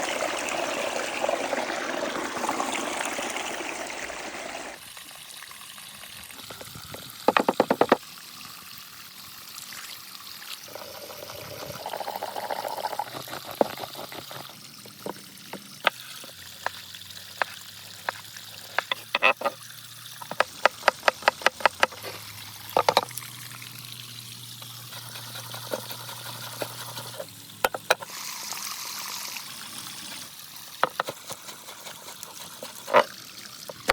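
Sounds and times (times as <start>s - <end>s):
water pouring and trickling: 0.0s - 33.9s.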